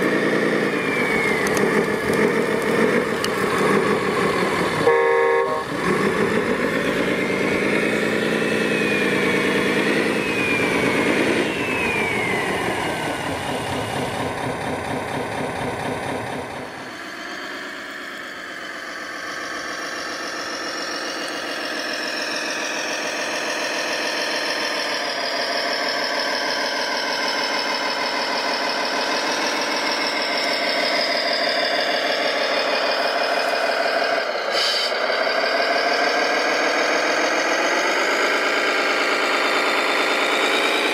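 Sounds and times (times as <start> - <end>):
model vehicle engines running: 0.0 - 40.9.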